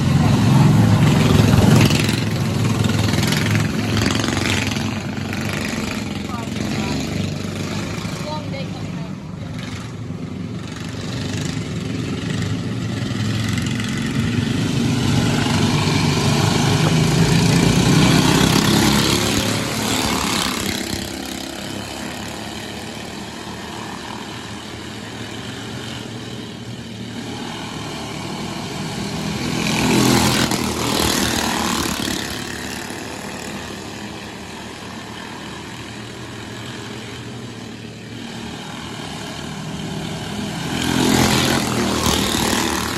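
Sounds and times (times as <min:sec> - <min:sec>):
race car engines: 0:00.0 - 0:42.9.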